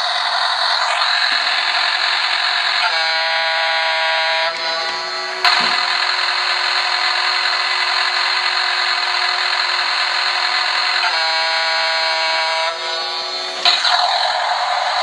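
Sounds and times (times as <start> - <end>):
toy horn blast: 1.5 - 15.0.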